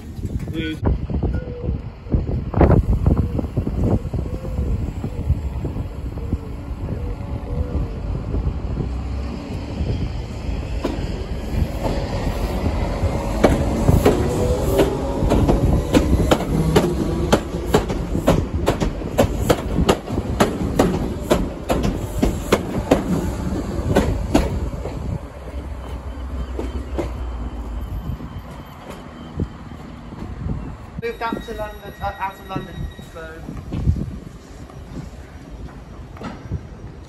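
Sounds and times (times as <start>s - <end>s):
electric train running past: 1.0s - 37.0s.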